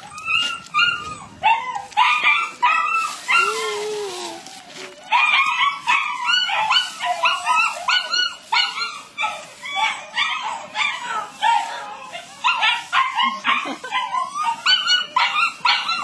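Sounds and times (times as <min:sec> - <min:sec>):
puppy yapping: 0:00.0 - 0:04.4, 0:05.1 - 0:16.0.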